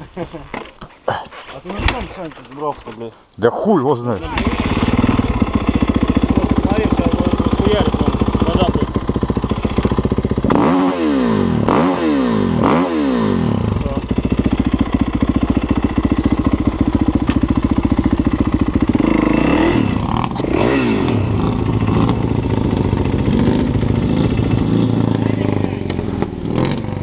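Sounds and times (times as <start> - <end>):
dirt bike engine revving and idling: 4.2 - 27.0.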